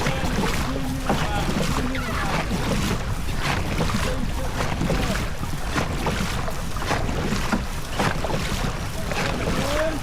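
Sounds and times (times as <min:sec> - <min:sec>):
low rumble of boat: 0:00.0 - 0:10.0
wind buffeting microphone: 0:00.0 - 0:10.0.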